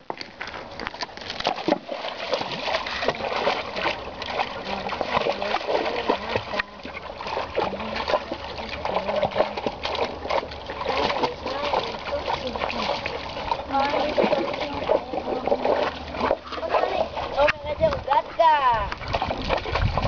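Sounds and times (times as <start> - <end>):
dog wading through water: 0.0 - 20.0.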